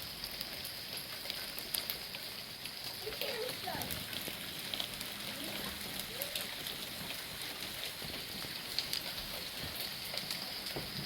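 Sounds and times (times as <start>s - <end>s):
hailstones ticking: 0.0s - 11.0s
steady rain hiss: 0.0s - 11.0s.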